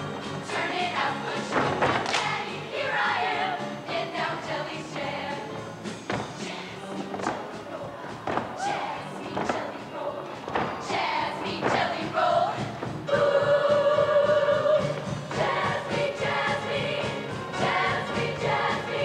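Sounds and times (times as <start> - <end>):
female choir singing in harmony: 0.3 - 5.6, 6.2 - 19.0.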